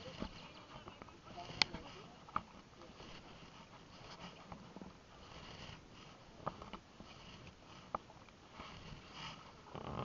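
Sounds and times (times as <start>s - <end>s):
paddle swishing through water: 0.0s - 10.0s.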